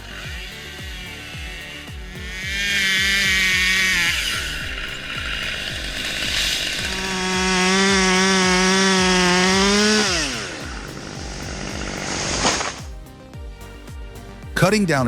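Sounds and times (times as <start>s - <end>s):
chainsaw engine revving: 0.0s - 12.9s.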